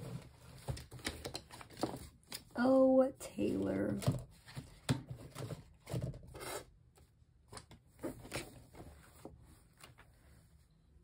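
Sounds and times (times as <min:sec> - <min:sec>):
paper rustling and flipping: 0:00.0 - 0:02.6, 0:03.4 - 0:10.5.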